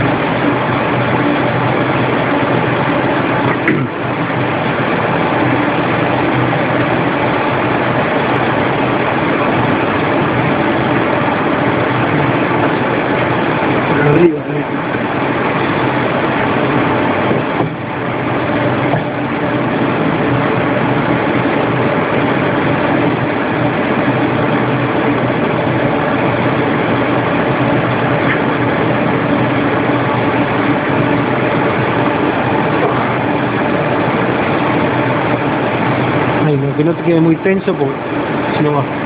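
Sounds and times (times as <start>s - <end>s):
machinery droning: 0.0s - 39.0s.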